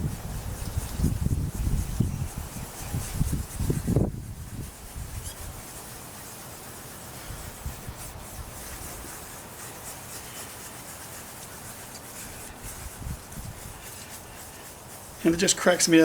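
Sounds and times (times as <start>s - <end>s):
sandpaper rubbing on plastic: 0.0s - 16.0s.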